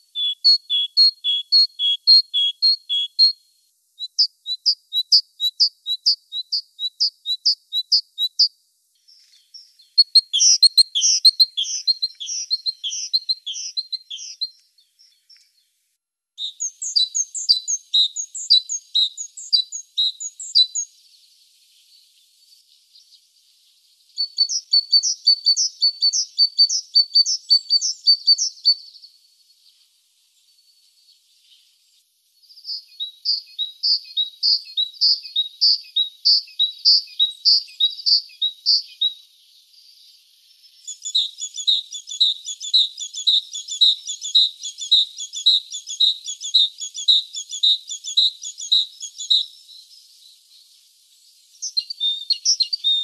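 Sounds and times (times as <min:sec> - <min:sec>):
great tit singing: 0:00.0 - 0:15.6, 0:16.4 - 0:29.6, 0:32.4 - 0:53.0.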